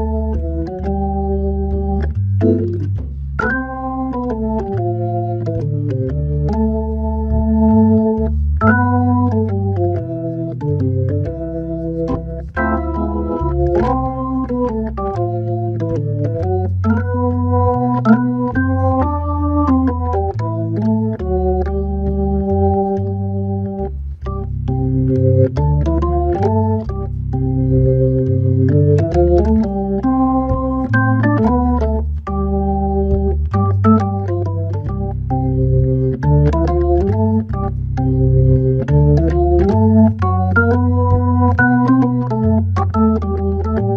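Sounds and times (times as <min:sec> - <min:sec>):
organ playing jazz waltz: 0:00.0 - 0:43.9.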